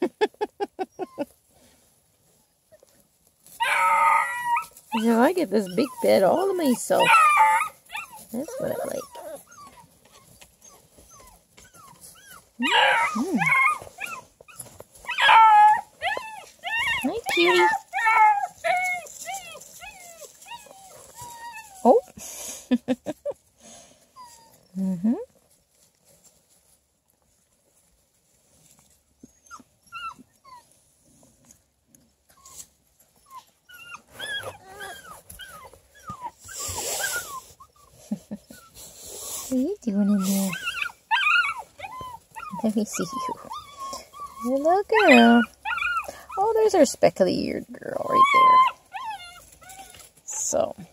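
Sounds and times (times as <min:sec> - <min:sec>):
rustle: 0:00.0 - 0:50.9
puppies whimpering and yelping: 0:00.2 - 0:01.6, 0:02.2 - 0:22.2, 0:22.8 - 0:25.5, 0:28.6 - 0:30.9, 0:32.3 - 0:50.6.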